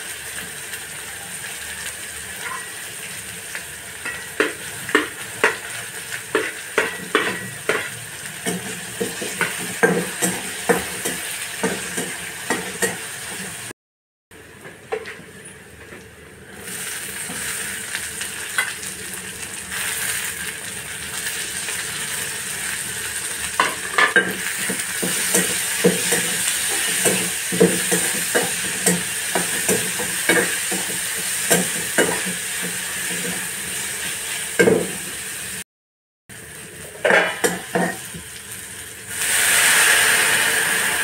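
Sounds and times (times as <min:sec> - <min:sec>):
food sizzling in hot oil: 0:00.0 - 0:13.7, 0:16.5 - 0:35.6, 0:36.3 - 0:41.0.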